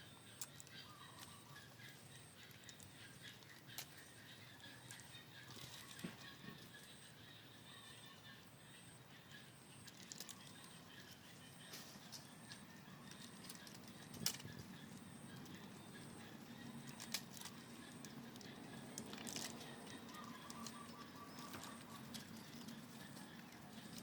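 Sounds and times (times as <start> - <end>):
distant bird calls: 0.0 - 24.0.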